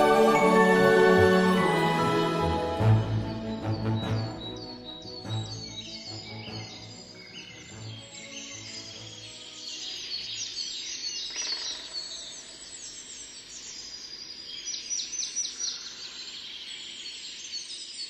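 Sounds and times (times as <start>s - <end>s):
small birds chirping: 3.2s - 18.0s.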